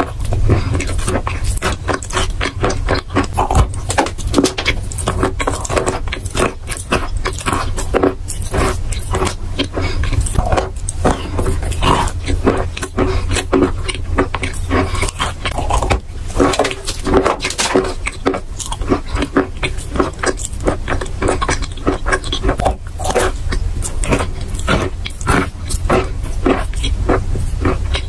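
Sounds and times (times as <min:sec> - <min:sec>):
biting into chalk: 0:00.0 - 0:28.0
chewing chalk: 0:00.0 - 0:28.0.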